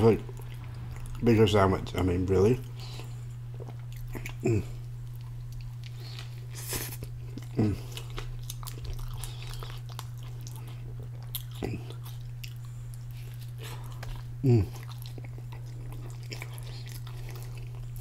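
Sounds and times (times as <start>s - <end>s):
steady low hum: 0.0s - 18.0s
biting and chewing food: 2.5s - 18.0s.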